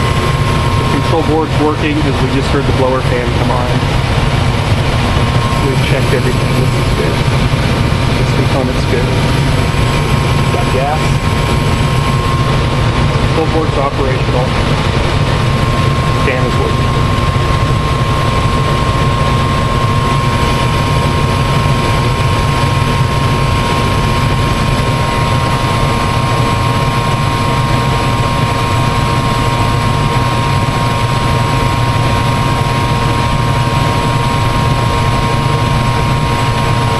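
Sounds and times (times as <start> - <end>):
constant whine: 0.0 - 36.9
furnace rushing hum: 0.0 - 36.9.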